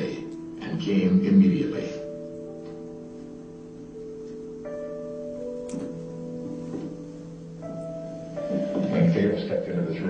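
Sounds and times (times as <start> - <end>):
slow quiet music of held notes: 0.0 - 10.0.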